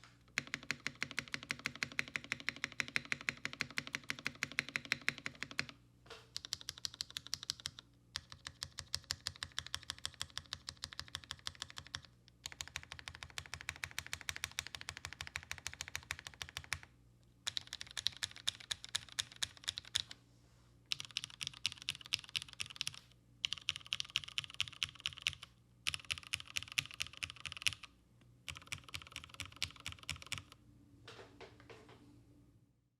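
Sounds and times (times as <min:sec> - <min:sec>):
mechanical keyboard typing: 0:00.0 - 0:05.8, 0:06.4 - 0:20.2, 0:20.9 - 0:27.9, 0:28.5 - 0:30.6.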